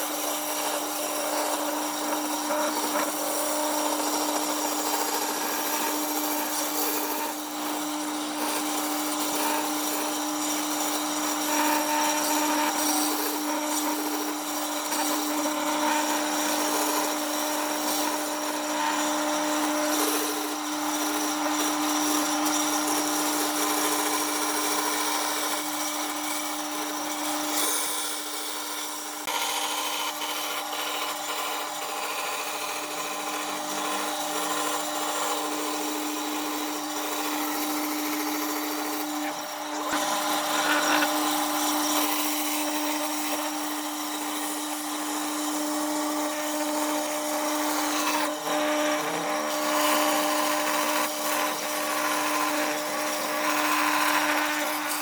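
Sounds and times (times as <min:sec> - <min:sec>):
power tool sanding wood: 0:00.0 - 0:55.0.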